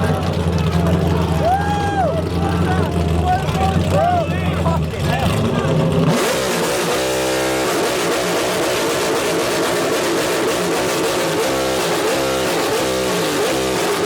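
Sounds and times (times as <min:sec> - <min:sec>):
car engine revving loud exhaust: 0:00.0 - 0:14.0.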